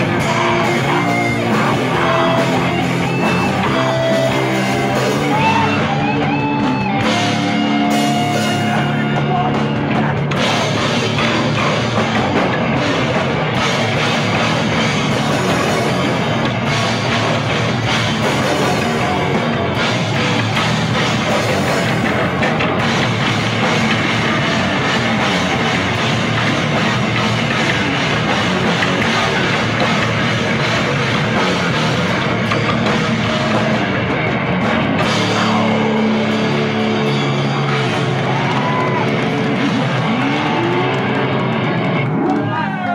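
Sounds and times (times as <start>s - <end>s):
distorted electric guitar: 0.0s - 42.9s
live rock band playing: 0.0s - 42.9s.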